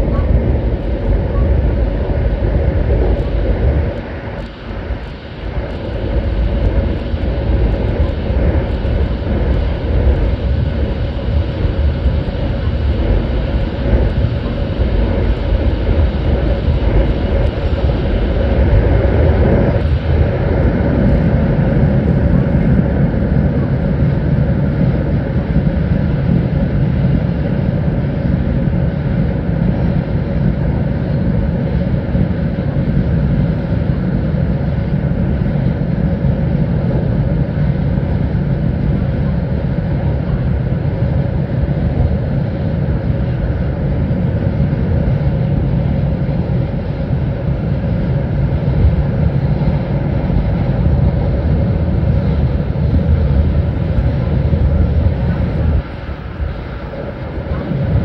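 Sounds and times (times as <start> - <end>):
train rumbling through tunnel: 0.0 - 58.0.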